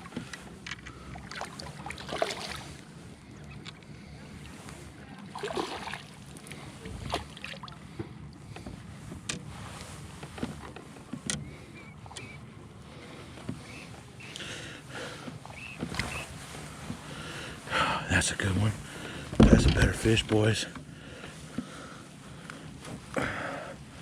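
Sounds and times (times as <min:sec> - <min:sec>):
knocks and clicks from boat: 0:00.0 - 0:17.8, 0:18.5 - 0:24.0
water sloshing around kayak: 0:00.0 - 0:24.0.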